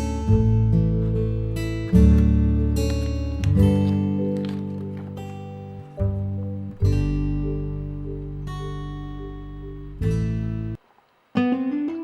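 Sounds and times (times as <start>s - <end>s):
plucked guitar music: 0.0s - 10.8s, 11.4s - 12.0s.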